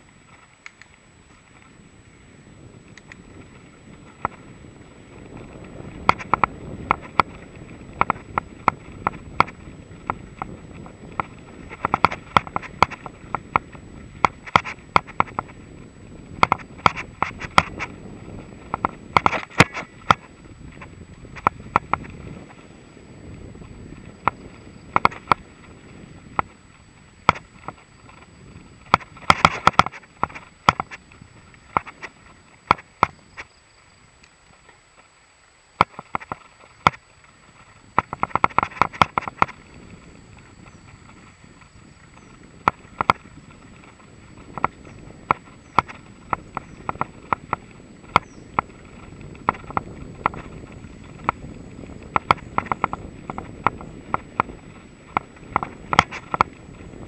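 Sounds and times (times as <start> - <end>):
bike clicks and rattles: 0.0 - 1.9, 2.5 - 57.0.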